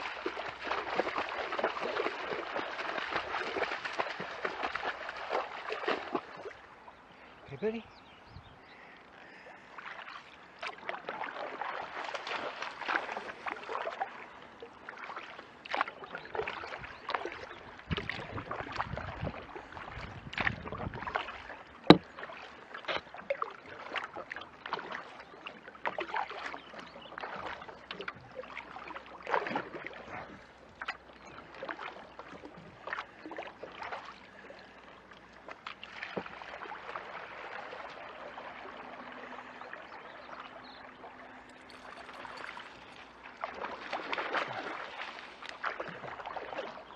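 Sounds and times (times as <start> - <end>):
paddles splashing in water: 0.0 - 46.9.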